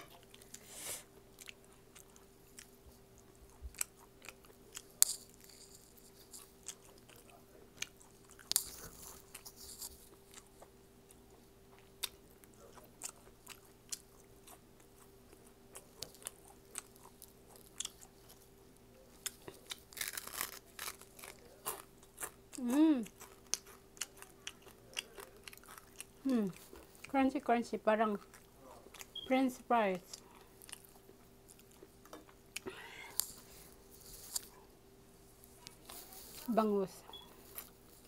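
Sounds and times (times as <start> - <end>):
crunchy chewing of fried fish: 0.0 - 27.2, 28.0 - 29.2, 30.0 - 36.5, 37.1 - 38.0.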